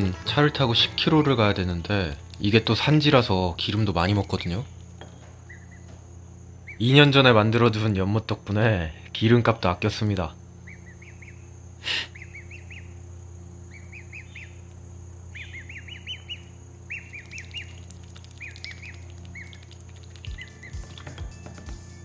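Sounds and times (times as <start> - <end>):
cygnet peeping chirps: 0.0 - 22.0
steady low hum: 0.0 - 22.0.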